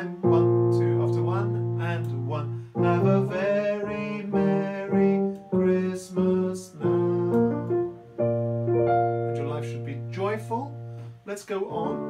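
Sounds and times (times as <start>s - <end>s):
digital piano chords: 0.0s - 12.0s.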